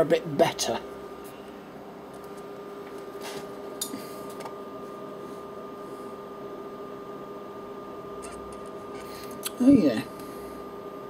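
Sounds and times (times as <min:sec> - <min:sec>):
low electrical hum with whine: 0:00.0 - 0:11.0.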